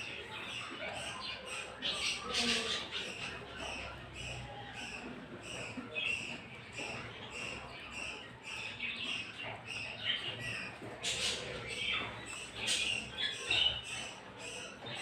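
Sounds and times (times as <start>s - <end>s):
caged birds chattering: 0.0s - 15.0s.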